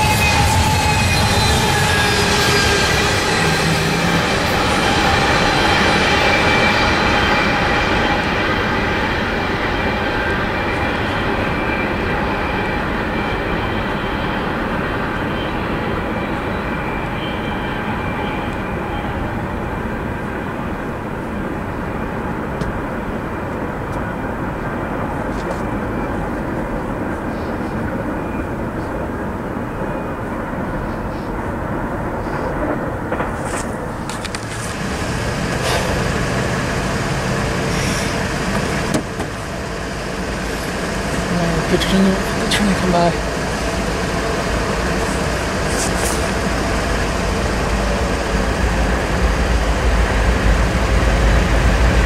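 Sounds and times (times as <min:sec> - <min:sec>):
train wheels rumbling on track: 0:00.0 - 0:52.0.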